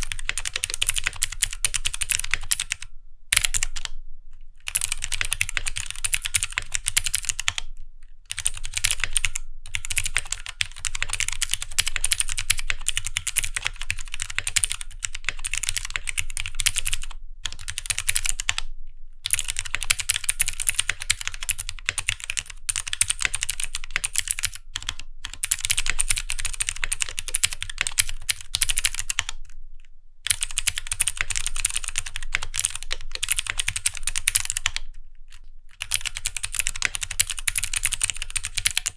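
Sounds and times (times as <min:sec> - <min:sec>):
fast typing on mechanical keyboard: 0:00.0 - 0:02.8, 0:03.4 - 0:03.9, 0:04.7 - 0:07.6, 0:08.3 - 0:29.4, 0:30.3 - 0:34.8, 0:35.7 - 0:38.9.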